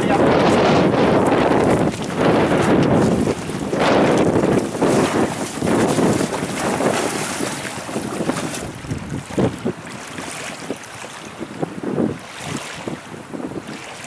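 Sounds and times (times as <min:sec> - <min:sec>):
gusty wind buffeting microphone: 0:00.0 - 0:14.0
lake water splashing and lapping: 0:00.0 - 0:14.0.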